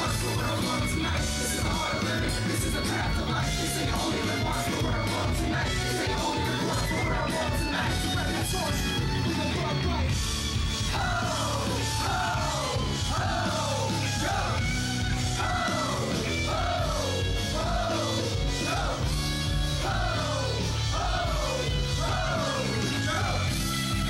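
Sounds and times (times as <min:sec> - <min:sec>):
steady bass: 0:00.0 - 0:24.0
yelled rock vocals: 0:00.0 - 0:24.0.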